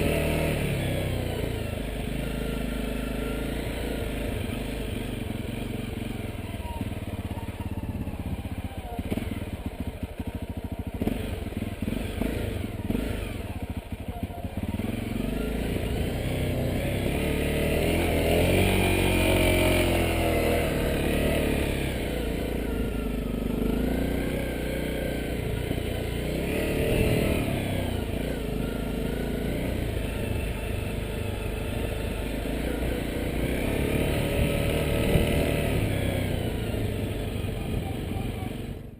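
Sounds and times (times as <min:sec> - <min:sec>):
dirt bike engine revving: 0:00.0 - 0:06.8, 0:11.0 - 0:13.7, 0:14.5 - 0:38.8.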